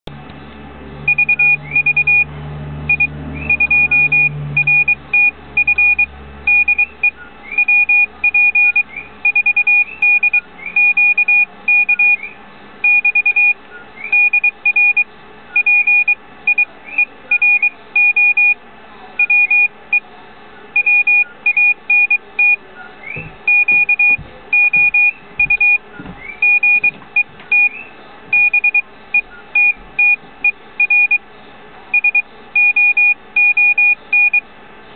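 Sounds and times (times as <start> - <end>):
morse code beeping: 1.0 - 2.3, 2.9 - 18.6, 19.2 - 20.1, 20.8 - 31.2, 31.9 - 34.4.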